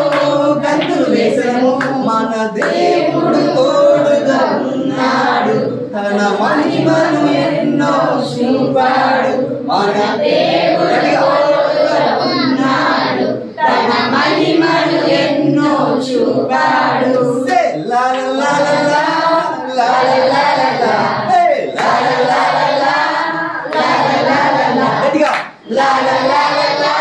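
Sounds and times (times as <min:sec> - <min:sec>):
people singing together: 0:00.0 - 0:27.0.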